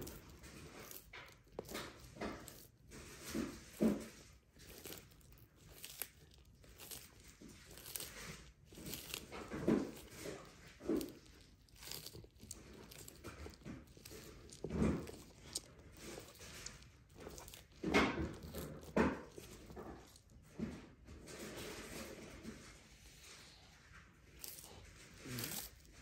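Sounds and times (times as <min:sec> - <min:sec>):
tortoise crunching food: 0:00.0 - 0:26.0.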